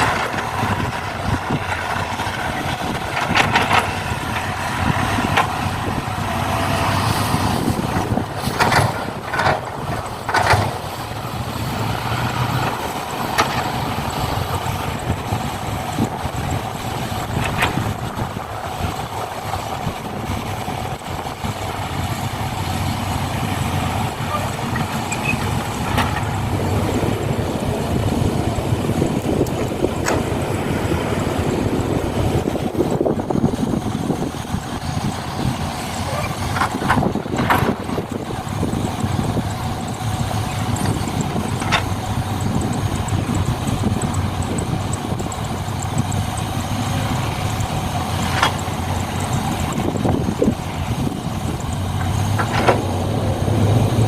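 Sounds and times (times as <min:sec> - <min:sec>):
model truck motor running: 0:00.0 - 0:54.0.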